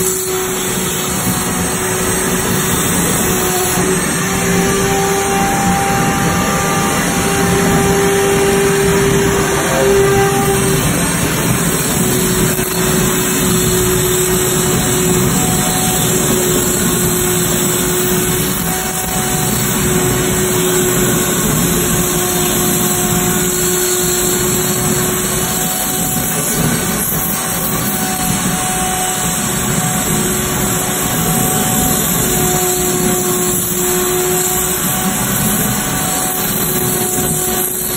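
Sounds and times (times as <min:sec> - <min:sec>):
electric router cutting foam: 0:00.0 - 0:37.9.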